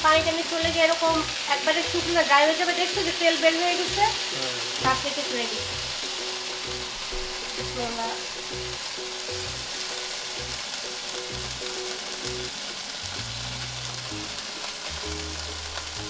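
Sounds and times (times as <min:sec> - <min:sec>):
background music: 0:00.0 - 0:16.0
skewers sizzling in hot oil: 0:00.0 - 0:16.0.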